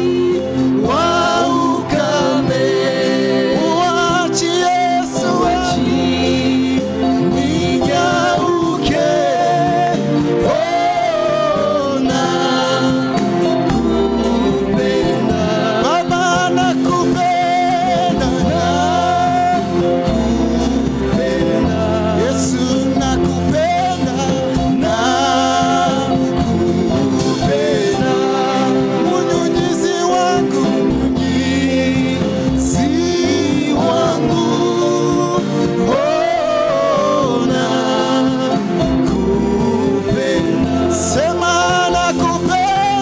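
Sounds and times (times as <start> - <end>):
band accompaniment with drum kit: 0.0 - 43.0
gospel singers singing: 0.0 - 43.0.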